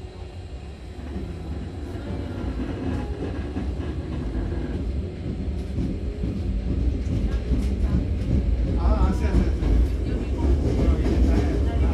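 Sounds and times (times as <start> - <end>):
train wheels rumbling: 0.2 - 11.9.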